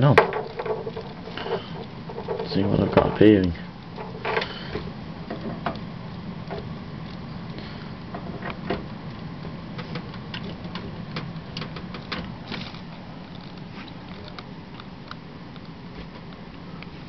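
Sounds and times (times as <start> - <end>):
computer fans humming: 0.0 - 17.0.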